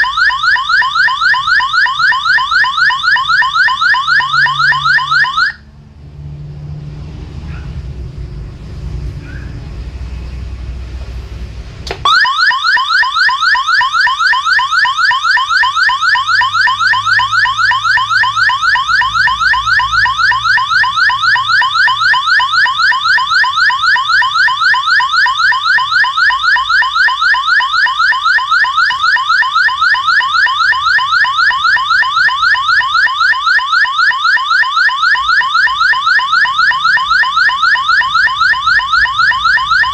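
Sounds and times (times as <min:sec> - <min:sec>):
electronic siren-like tone: 0:00.0 - 0:05.9, 0:12.0 - 0:39.9.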